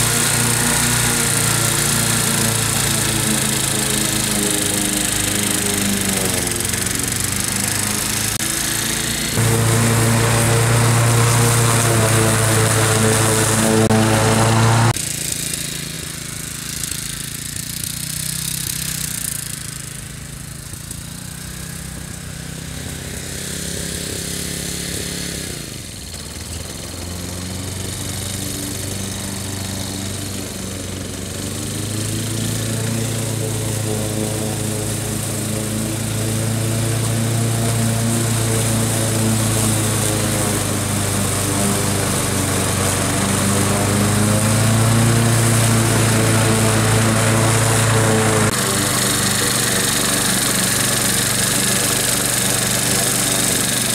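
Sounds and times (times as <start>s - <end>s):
ride-on mower cutting grass: 0.0s - 53.9s.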